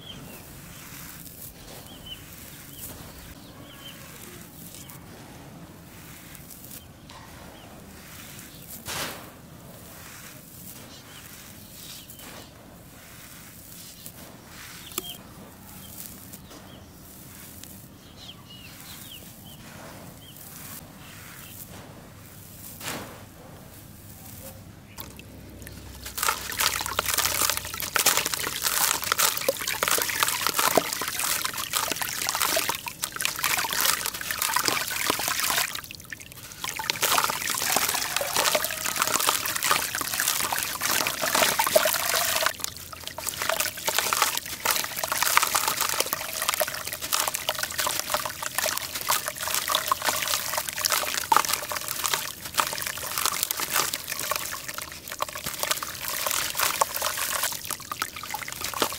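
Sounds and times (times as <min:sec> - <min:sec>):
hands crumbling wet charcoal: 0:00.0 - 0:05.2, 0:05.8 - 0:23.0, 0:24.0 - 0:58.9
water trickling and splashing: 0:00.0 - 0:15.2, 0:25.0 - 0:58.9.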